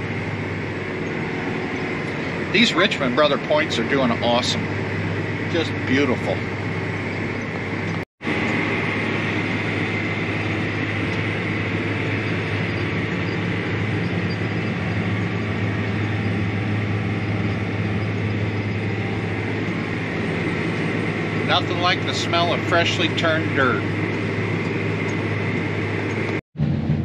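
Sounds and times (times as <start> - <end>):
steady high whine: 0.0 - 27.0
tractor engine droning: 0.0 - 27.0.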